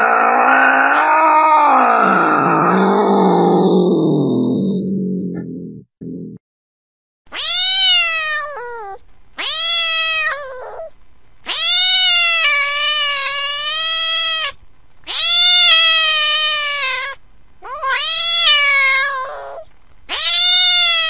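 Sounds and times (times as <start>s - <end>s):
cat meowing: 0.0s - 5.7s, 7.3s - 10.9s, 11.5s - 21.0s.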